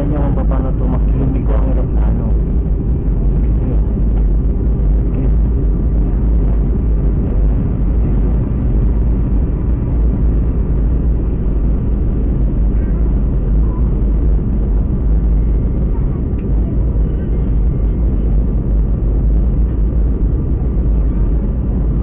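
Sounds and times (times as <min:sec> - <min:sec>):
jet engines inside cabin: 0:00.0 - 0:22.0.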